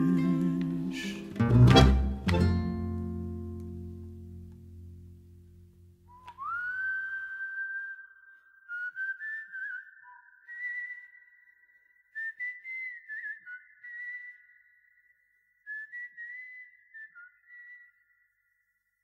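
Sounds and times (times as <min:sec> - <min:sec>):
high whistled notes: 0:00.0 - 0:03.3, 0:06.1 - 0:18.2.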